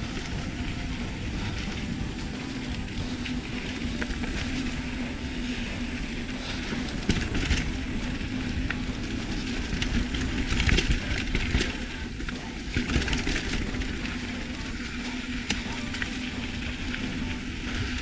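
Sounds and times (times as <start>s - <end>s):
bike clattering over rough ground: 0.0s - 18.0s.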